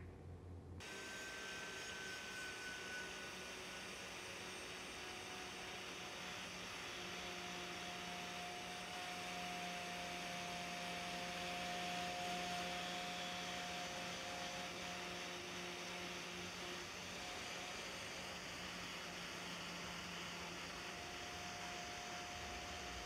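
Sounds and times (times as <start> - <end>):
angle grinder motor hum: 0.8 - 23.0.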